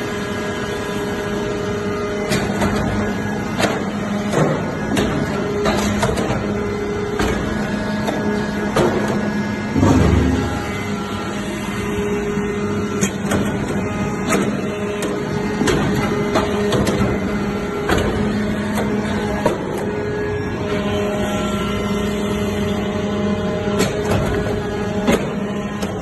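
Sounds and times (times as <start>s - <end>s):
baler motor and pump hum: 0.0s - 26.0s.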